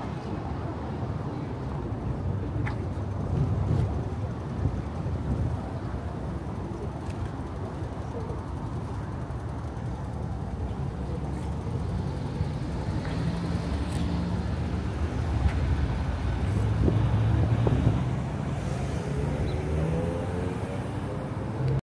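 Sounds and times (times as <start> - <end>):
city street traffic: 0.0 - 21.8.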